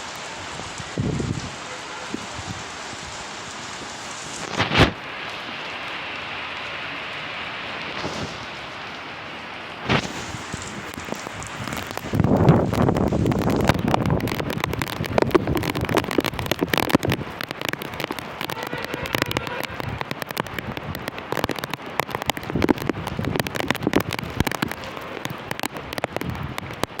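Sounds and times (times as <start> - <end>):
large raindrops tapping: 0.0 - 27.0
steady hiss of rainfall: 0.0 - 27.0.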